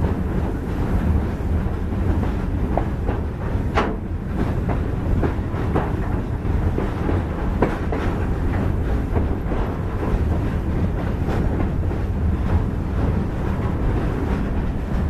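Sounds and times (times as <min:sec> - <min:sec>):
train rumbling on track: 0:00.0 - 0:15.0
train wheels clacking: 0:00.0 - 0:15.0.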